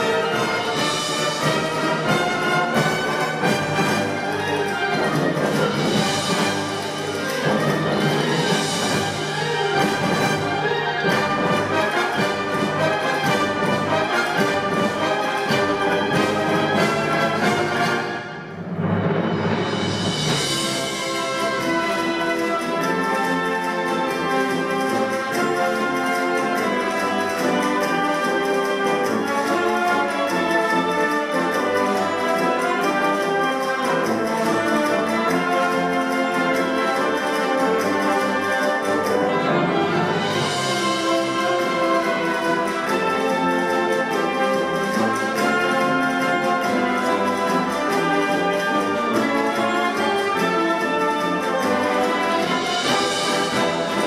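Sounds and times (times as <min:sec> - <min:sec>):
concert band playing: 0:00.0 - 0:54.0.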